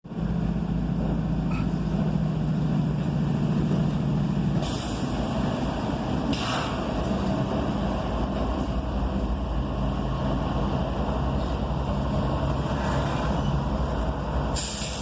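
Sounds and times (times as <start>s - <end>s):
locomotive diesel engine humming: 0.1s - 15.0s.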